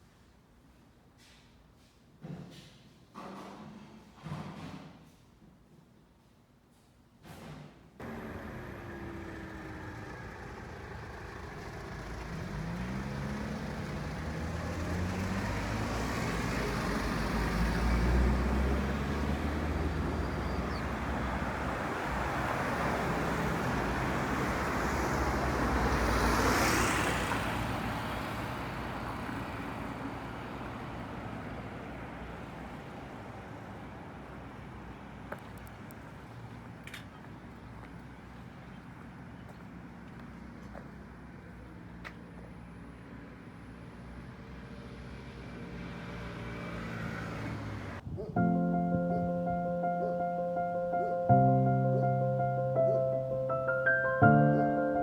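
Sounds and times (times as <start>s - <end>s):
motor vehicles passing: 8.0s - 55.0s.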